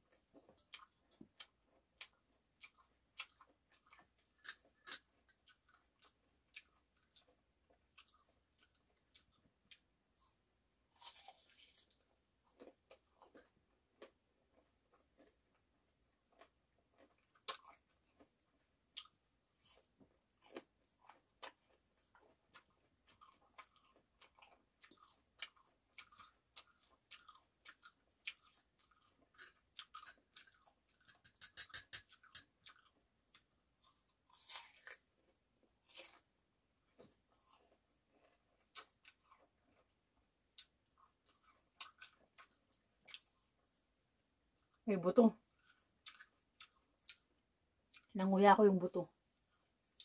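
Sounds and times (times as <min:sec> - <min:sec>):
person chewing fruit: 0:00.0 - 0:44.8, 0:45.4 - 0:48.1, 0:49.2 - 0:50.0.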